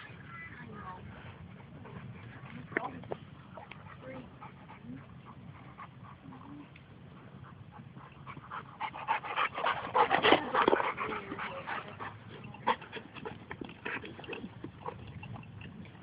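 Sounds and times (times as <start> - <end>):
dogs panting while playing: 1.1 - 16.0.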